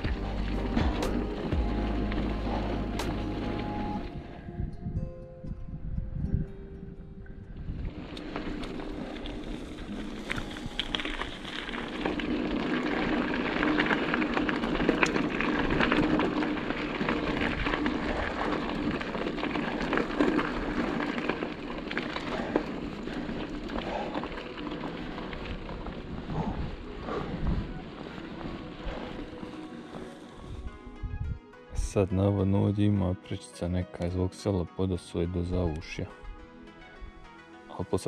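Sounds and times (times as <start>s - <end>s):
bike tyres rolling on gravel: 0.0s - 4.4s, 7.5s - 38.0s.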